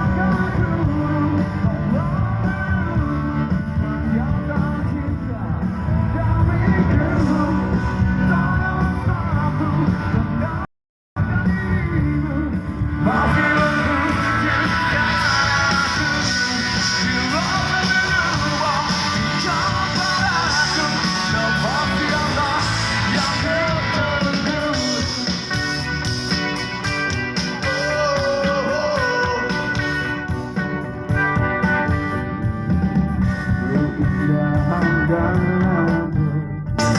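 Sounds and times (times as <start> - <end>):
person singing: 0.0 - 25.9, 27.2 - 30.3, 33.5 - 36.9
live rock band playing: 0.0 - 36.9.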